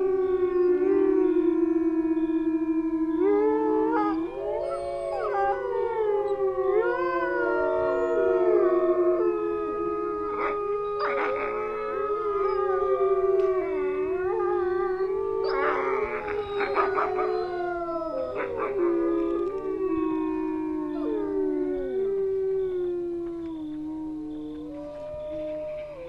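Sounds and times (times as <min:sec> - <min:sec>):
wolves howling: 0:00.0 - 0:26.0.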